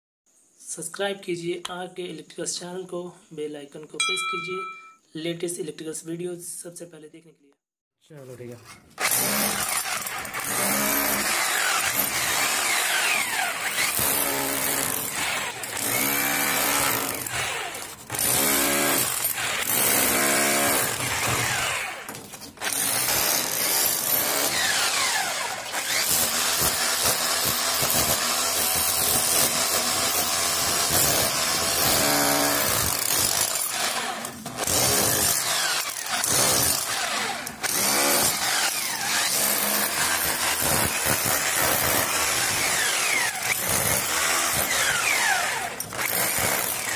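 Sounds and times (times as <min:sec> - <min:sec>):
rotary hammer drill hammering brick: 0:09.0 - 0:46.9.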